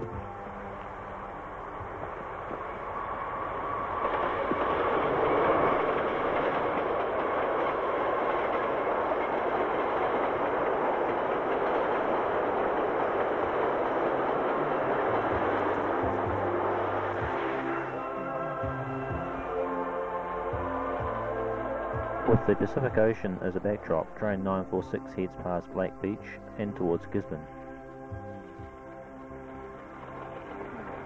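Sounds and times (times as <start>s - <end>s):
freight train passing: 0.0s - 31.0s.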